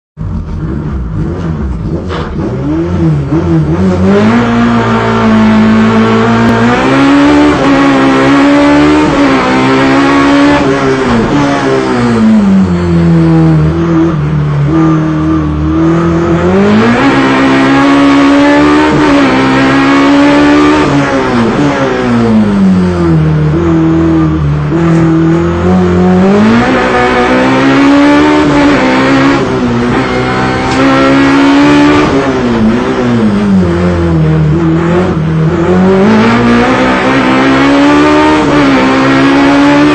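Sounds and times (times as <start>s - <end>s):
race car engine revving: 0.2s - 39.9s.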